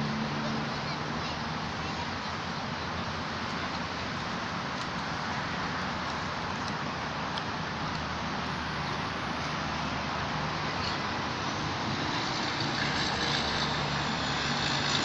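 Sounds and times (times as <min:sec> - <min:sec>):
road traffic noise: 0:00.0 - 0:15.0
vehicle passing: 0:00.0 - 0:15.0.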